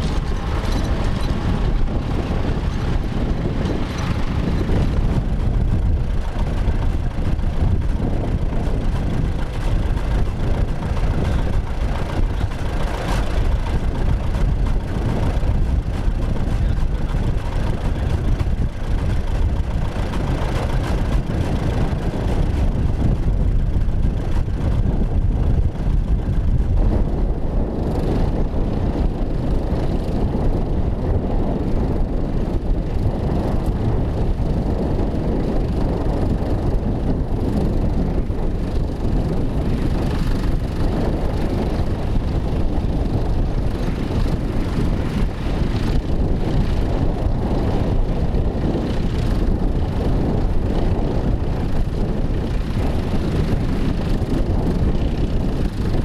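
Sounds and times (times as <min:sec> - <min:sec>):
tractor engines under load: 0:00.0 - 0:27.1, 0:35.4 - 0:56.0.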